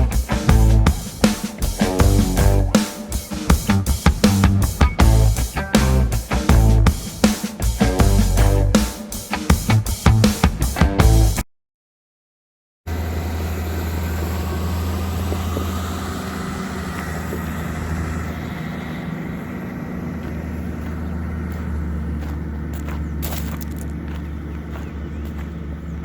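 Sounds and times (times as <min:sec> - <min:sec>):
diesel engine running: 0:00.0 - 0:11.4, 0:12.9 - 0:26.0.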